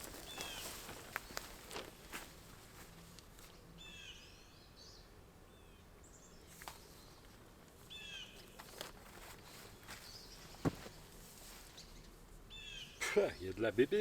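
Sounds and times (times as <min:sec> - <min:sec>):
birds chirping: 0:00.0 - 0:02.0, 0:03.5 - 0:14.0.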